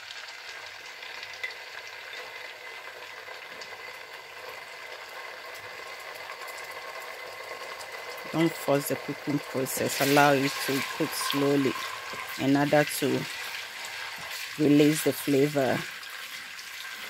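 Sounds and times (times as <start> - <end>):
oil sizzling in a pot: 0.0 - 17.0.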